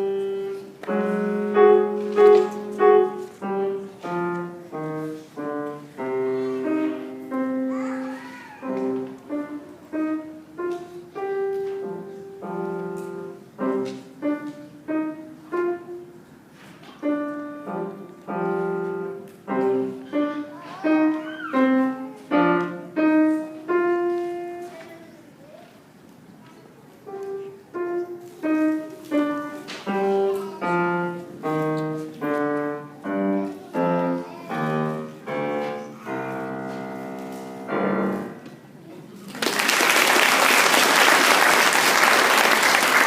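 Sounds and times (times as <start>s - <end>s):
acoustic piano notes and chords: 0.0s - 25.5s, 26.3s - 39.2s.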